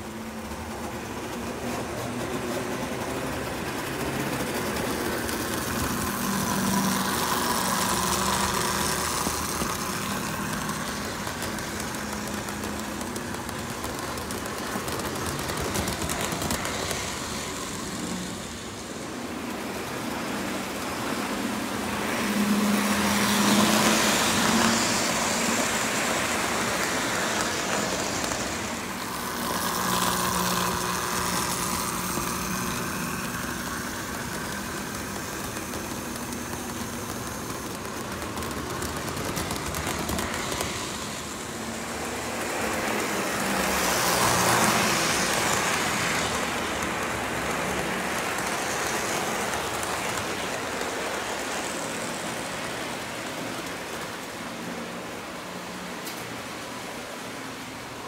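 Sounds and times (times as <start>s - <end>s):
wheels rumbling on track: 0.0s - 57.7s
model train motor whirring: 2.4s - 55.4s.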